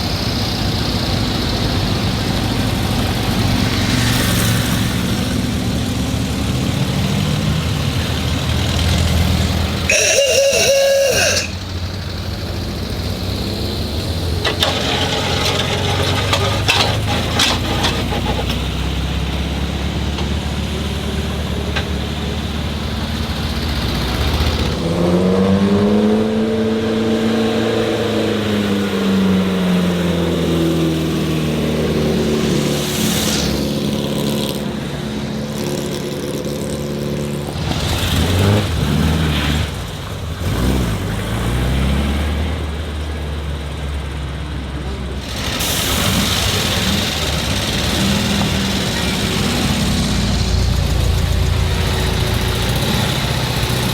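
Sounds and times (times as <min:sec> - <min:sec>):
car engine revving: 0:00.0 - 0:44.0, 0:44.7 - 0:53.9
car engines running: 0:00.0 - 0:53.9.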